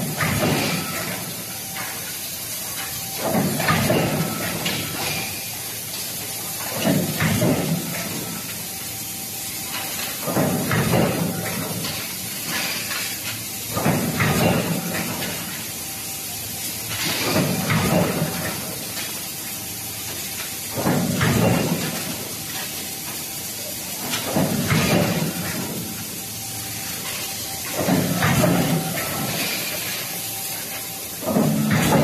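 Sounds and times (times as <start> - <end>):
forging press hiss: 0.0 - 32.0.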